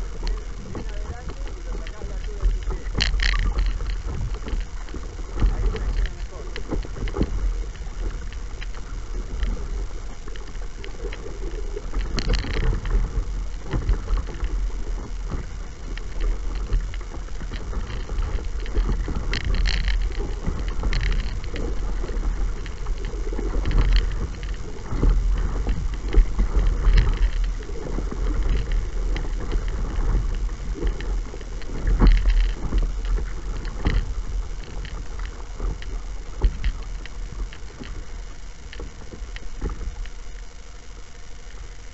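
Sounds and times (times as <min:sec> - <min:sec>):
water splashing against bow: 0:00.0 - 0:41.9
wind rumble on microphone: 0:00.0 - 0:41.9.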